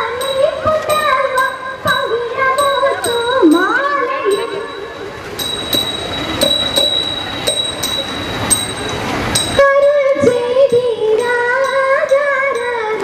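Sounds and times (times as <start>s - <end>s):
crowd noise: 0.0s - 13.0s
metallic beat: 0.2s - 11.9s.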